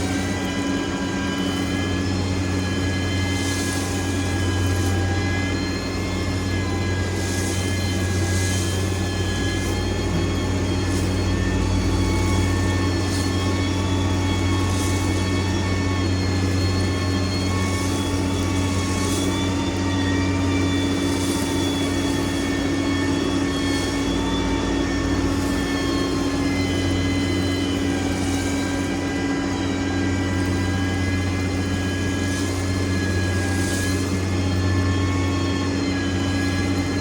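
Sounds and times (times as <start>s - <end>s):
heavy machine engine humming: 0.0s - 37.0s.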